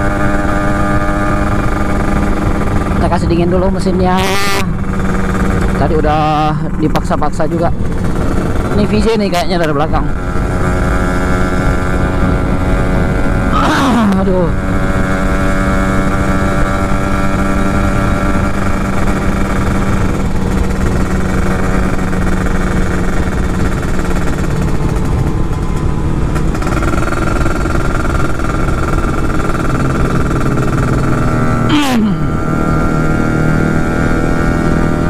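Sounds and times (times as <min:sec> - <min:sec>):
two-stroke motorcycle engine: 0:00.0 - 0:35.0.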